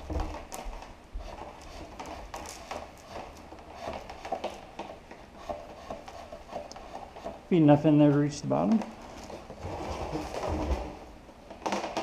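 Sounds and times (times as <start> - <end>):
plastic tubing rubbing and scraping: 0.0 - 7.5, 8.8 - 12.0.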